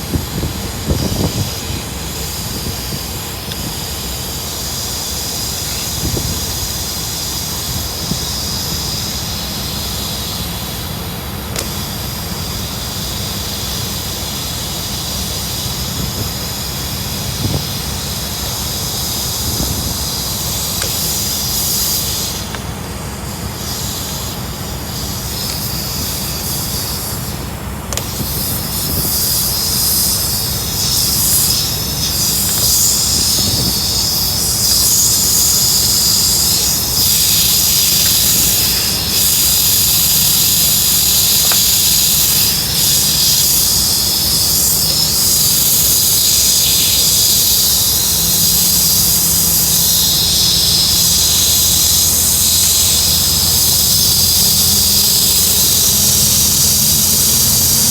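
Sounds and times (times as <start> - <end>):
loud hiss of air: 0.0 - 57.9.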